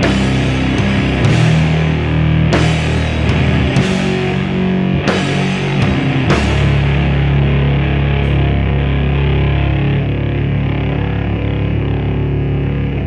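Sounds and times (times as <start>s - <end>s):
distorted guitars droning chord: 0.0s - 13.0s
heavy rock band playing: 0.0s - 13.0s.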